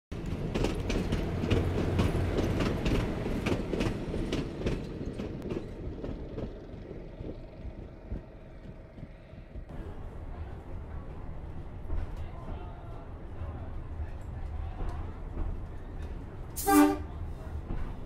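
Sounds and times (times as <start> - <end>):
train wheels clicking over rail joints: 0.1 - 12.7, 13.7 - 18.0
train low rumble: 0.1 - 18.0.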